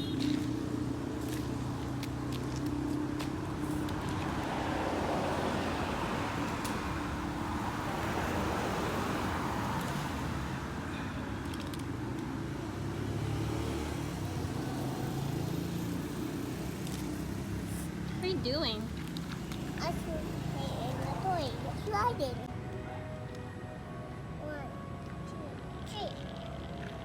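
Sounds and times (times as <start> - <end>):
road noise: 0.0 - 27.0.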